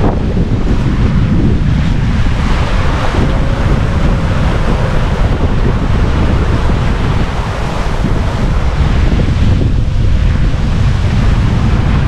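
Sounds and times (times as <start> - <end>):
sea rushing along hull: 0.0 - 12.0
wind buffeting microphone: 0.0 - 12.0.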